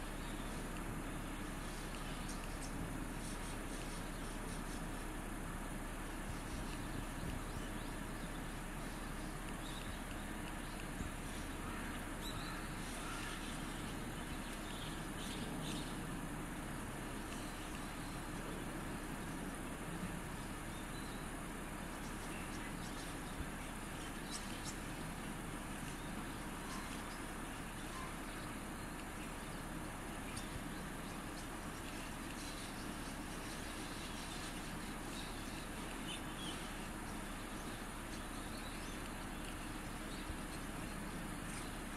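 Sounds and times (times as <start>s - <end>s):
low hum: 0.0s - 41.9s
outdoor background noise: 0.0s - 41.9s.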